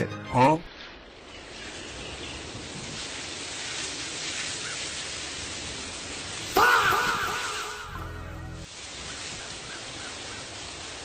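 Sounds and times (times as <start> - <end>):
steady hissing noise: 0.6 - 11.0.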